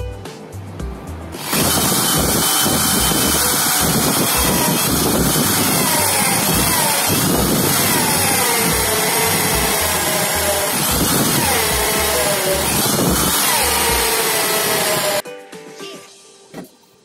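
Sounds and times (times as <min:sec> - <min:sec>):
drill boring into wood: 0:01.4 - 0:15.2.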